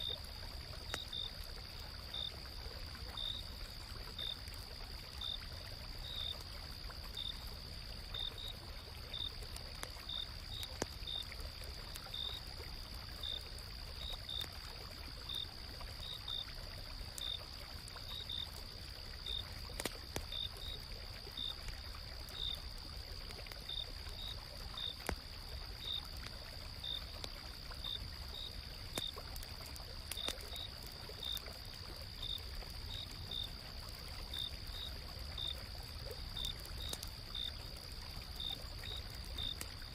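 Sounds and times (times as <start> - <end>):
campfire crackles: 0.0 - 39.9
flowing stream: 0.0 - 39.9.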